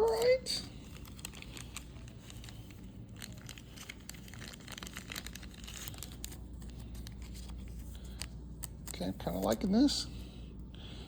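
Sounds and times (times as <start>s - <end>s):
wrappers rustling and crinkling: 0.0s - 9.8s.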